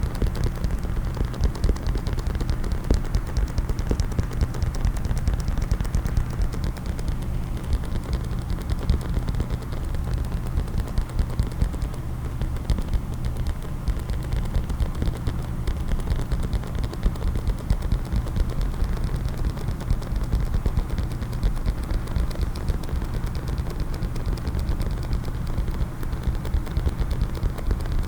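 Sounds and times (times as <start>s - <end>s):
rapid tapping on a case: 0.0s - 28.0s.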